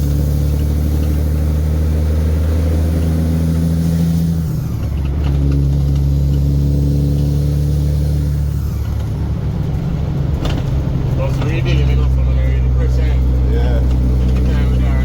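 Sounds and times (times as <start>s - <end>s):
diesel truck engine pulling: 0.0s - 15.0s.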